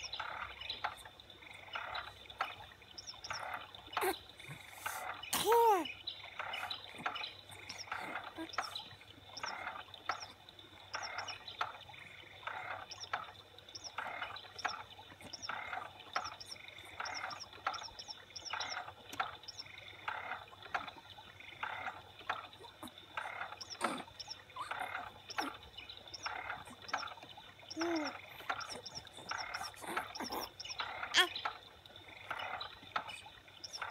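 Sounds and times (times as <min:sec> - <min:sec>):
frogs croaking: 0:00.0 - 0:33.9.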